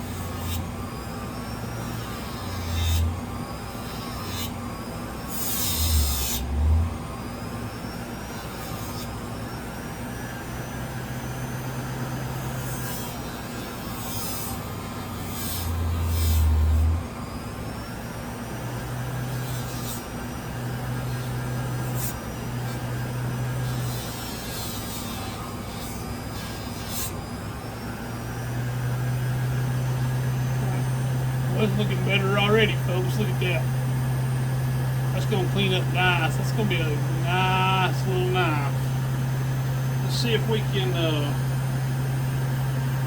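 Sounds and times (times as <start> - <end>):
grinder wheel on knife: 0.0 - 6.7, 10.6 - 17.0, 19.1 - 43.0
motor hum: 0.0 - 43.0.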